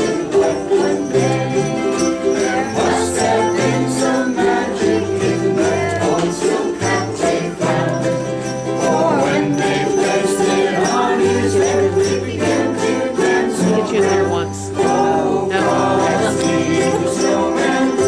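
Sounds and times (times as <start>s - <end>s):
group of voices singing: 0.0s - 18.0s
jingle bells shaking: 0.0s - 18.0s
ukulele ensemble strumming: 0.0s - 18.0s.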